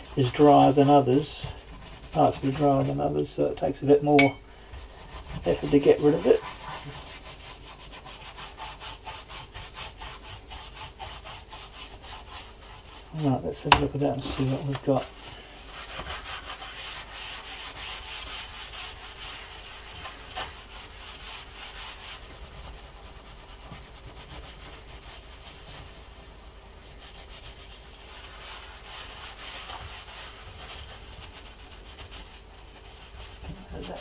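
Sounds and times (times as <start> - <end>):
paper towel rubbing on board: 0.0 - 3.8, 4.8 - 34.0.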